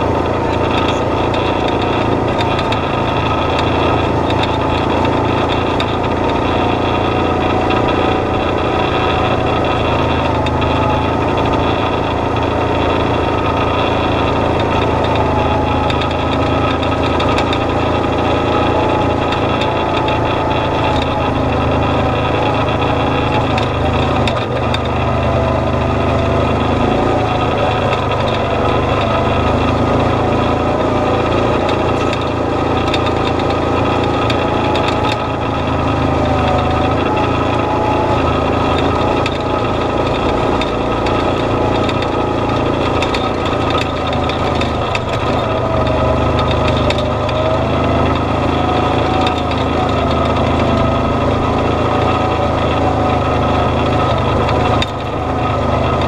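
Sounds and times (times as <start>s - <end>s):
clicks and rattles: 0.0s - 56.0s
vehicle engine running: 0.0s - 56.0s.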